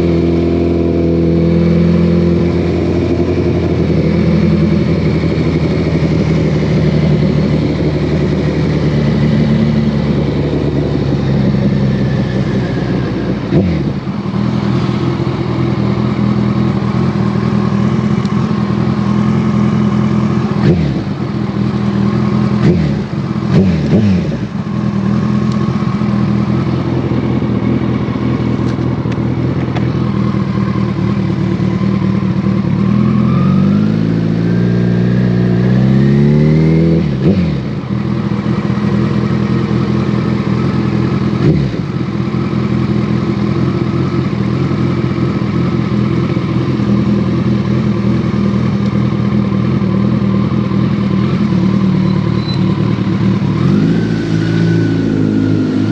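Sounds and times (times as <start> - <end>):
motorcycle engine and exhaust: 0.0 - 55.9.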